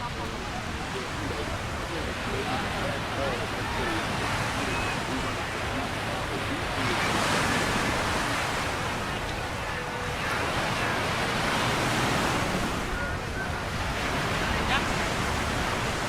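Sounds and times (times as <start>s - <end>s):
ocean surf washing onto beach: 0.0s - 16.0s
wind rumble on microphone: 0.0s - 16.0s.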